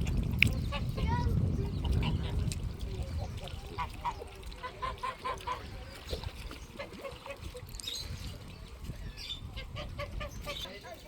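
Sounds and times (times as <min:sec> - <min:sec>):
farm birds calling: 0:00.0 - 0:11.0.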